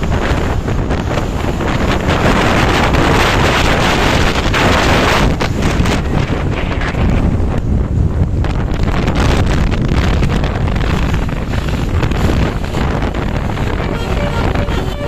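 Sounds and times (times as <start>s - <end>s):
traffic engine rumble: 0.0s - 15.0s
wind buffeting microphone: 0.0s - 15.0s.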